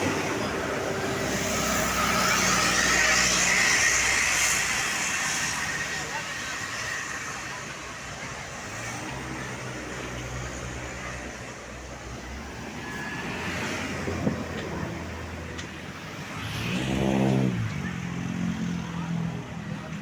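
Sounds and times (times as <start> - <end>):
bus engines passing: 0.0 - 20.0
road traffic: 0.0 - 20.0.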